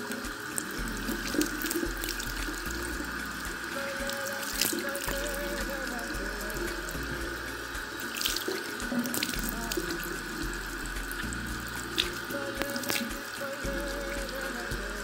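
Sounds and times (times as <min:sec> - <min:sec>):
tap water running into sink: 0:00.0 - 0:15.0
water splashes: 0:00.0 - 0:15.0.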